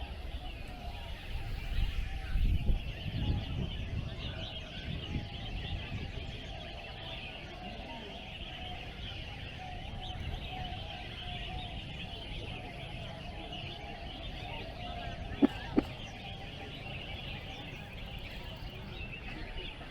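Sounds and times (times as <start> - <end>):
songbirds chirping and singing: 0.0 - 19.9.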